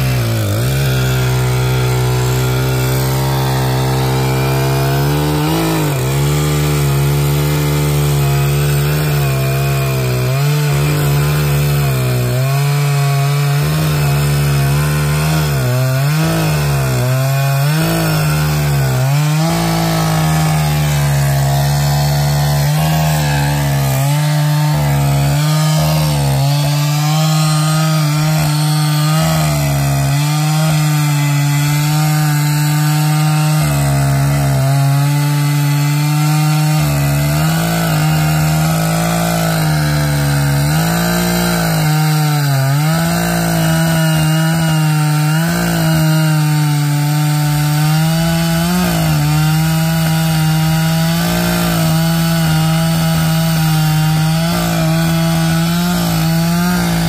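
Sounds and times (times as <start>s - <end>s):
chainsaw cutting into tree trunk: 0.0s - 57.0s.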